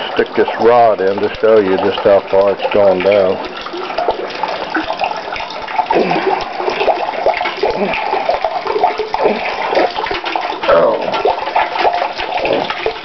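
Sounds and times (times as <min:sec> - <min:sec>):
rainwater pouring into tank: 0:00.0 - 0:13.0.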